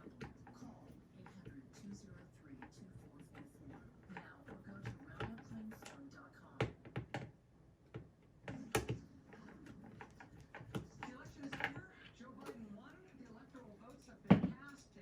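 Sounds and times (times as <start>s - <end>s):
plastic fan parts knocking: 0.0s - 13.0s.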